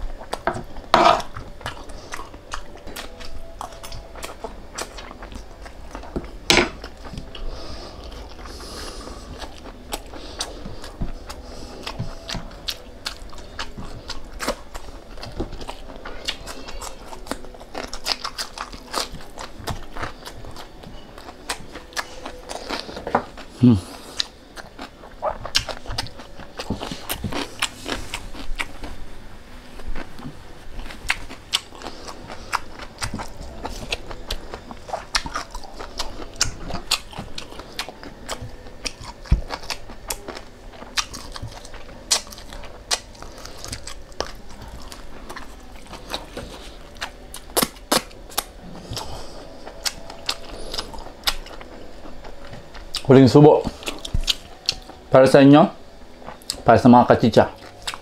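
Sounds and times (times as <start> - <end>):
person chewing: 0.0 - 55.2, 55.8 - 56.7, 57.4 - 58.0.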